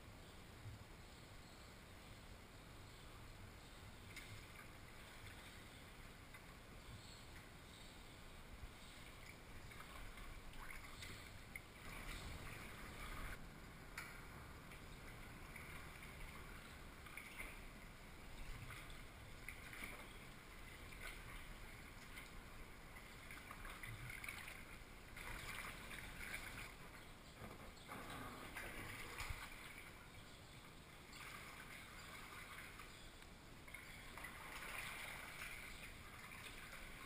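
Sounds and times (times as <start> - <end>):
paddle splashing and dripping: 3.8 - 27.3, 28.5 - 37.0.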